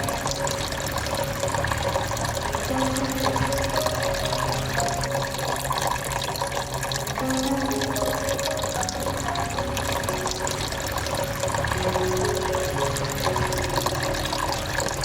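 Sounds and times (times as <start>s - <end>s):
water falling and splashing: 0.0s - 15.0s.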